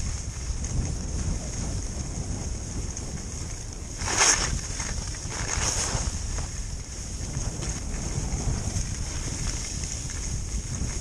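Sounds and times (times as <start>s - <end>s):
skis scraping over snow: 0.0s - 11.0s
wind rumbling on microphone: 0.0s - 11.0s.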